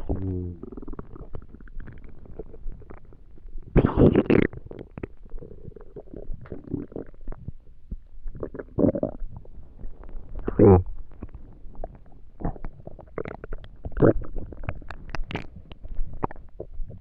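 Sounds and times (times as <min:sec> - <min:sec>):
stomach growling and gurgling: 0:00.0 - 0:17.0.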